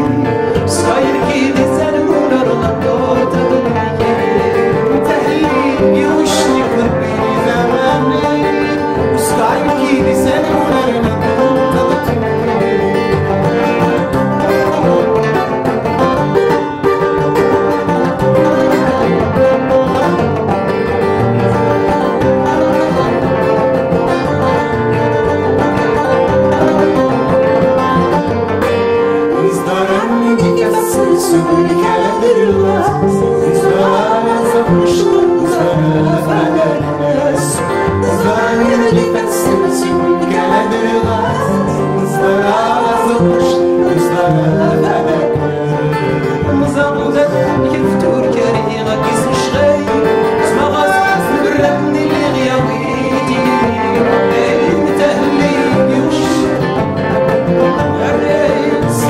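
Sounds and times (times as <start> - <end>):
acoustic guitar: 0.0 - 59.0
banjo: 0.0 - 59.0
men singing: 0.0 - 59.0.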